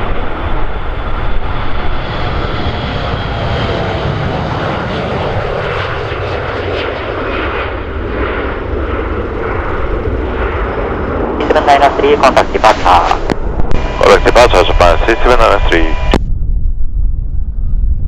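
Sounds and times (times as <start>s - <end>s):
jet engines at takeoff power: 0.0s - 16.3s
high engine whine: 0.0s - 17.5s.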